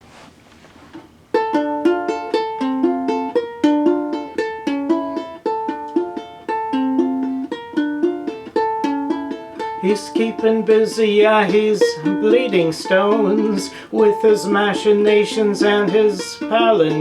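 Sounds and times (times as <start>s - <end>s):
ukulele plucked riff: 1.2s - 17.0s.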